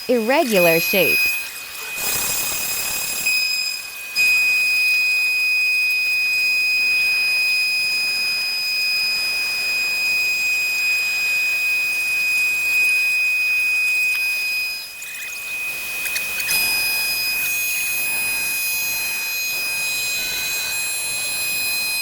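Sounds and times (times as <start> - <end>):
machine spindle high-pitched whine: 0.0 - 22.0.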